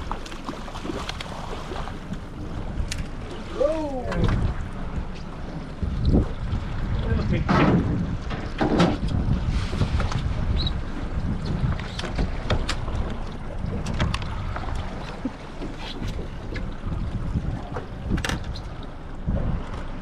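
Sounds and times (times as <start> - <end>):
low rumbling water on hull: 0.0 - 20.0
wind on microphone: 0.8 - 20.0.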